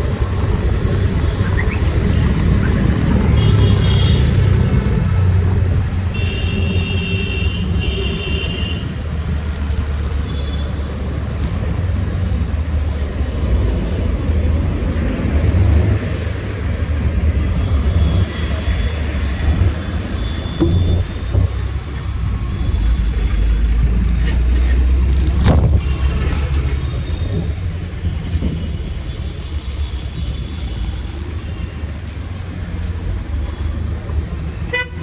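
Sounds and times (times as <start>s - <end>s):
wind and motor rumble: 0.0s - 6.2s, 7.8s - 35.0s
road traffic: 0.0s - 35.0s.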